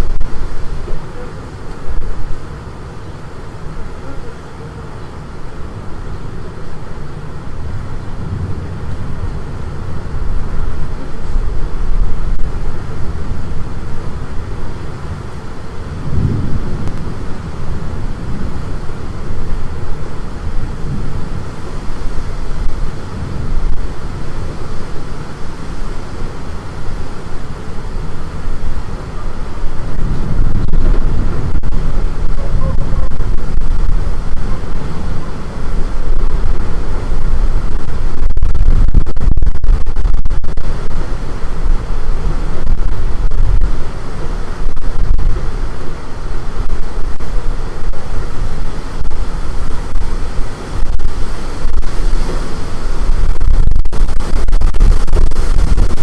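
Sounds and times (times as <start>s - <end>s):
storm wind buffeting microphone: 0.0s - 56.0s.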